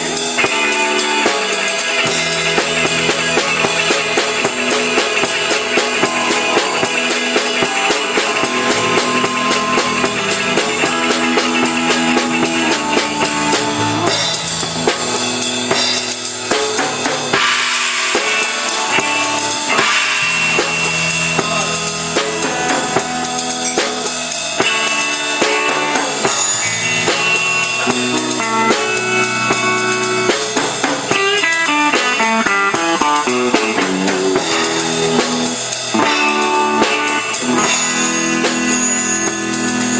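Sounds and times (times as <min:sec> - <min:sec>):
fast guitar run: 0:00.0 - 0:39.9
live rock band playing: 0:00.0 - 0:39.9.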